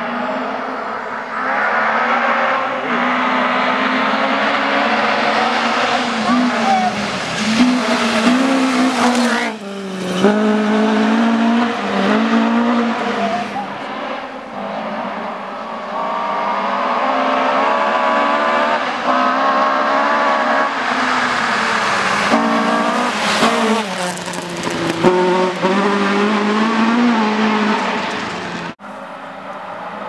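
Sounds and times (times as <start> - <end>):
car passing with rush of noise: 0.0 - 30.0
rally car engine at full throttle: 0.0 - 30.0.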